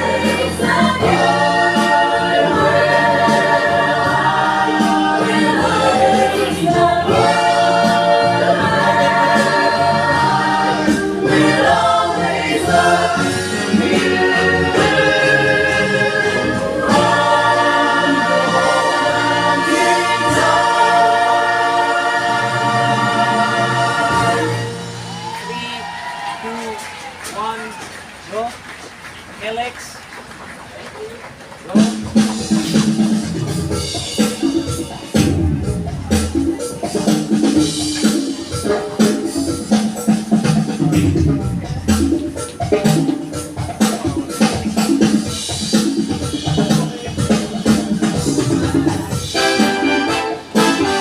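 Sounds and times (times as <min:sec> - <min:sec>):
choir singing held chords: 0:00.0 - 0:25.3, 0:32.8 - 0:51.0
musical accompaniment: 0:00.0 - 0:25.9, 0:31.7 - 0:51.0.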